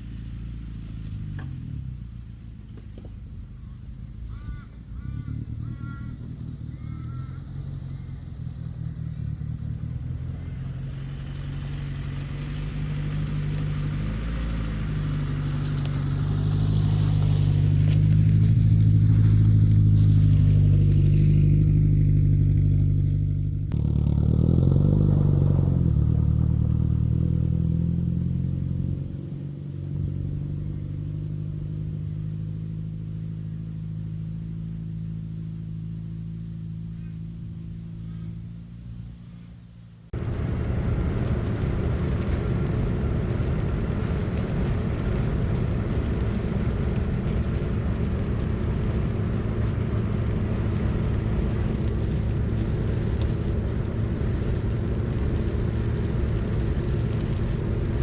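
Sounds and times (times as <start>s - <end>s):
car engine pulling: 0.0s - 58.0s.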